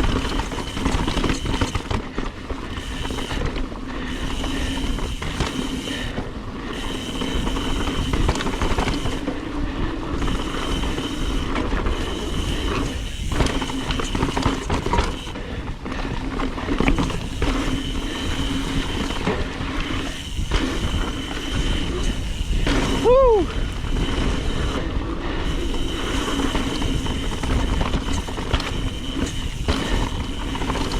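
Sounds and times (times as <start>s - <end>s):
bike tyres on dirt: 0.0s - 30.9s
freehub buzz: 0.0s - 30.9s.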